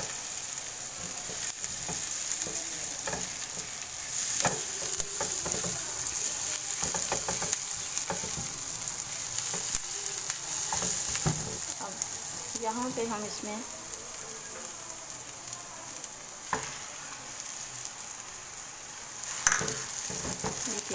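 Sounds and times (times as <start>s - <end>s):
onions sizzling in frying pan: 0.0s - 20.9s.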